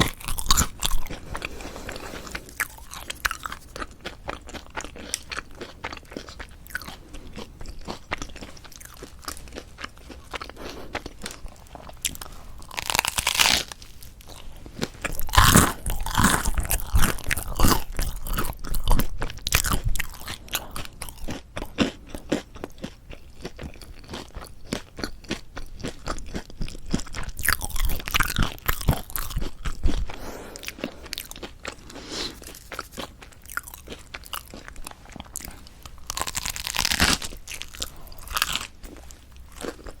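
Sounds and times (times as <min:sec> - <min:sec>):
crunching and chewing bread: 0:00.0 - 0:40.0.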